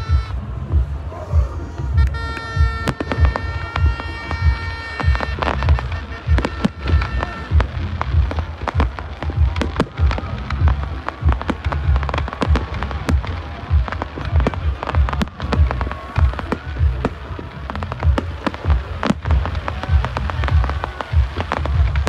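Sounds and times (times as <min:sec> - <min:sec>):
fireworks low thuds: 0:00.0 - 0:22.0
fireworks cracks and pops: 0:02.0 - 0:22.0.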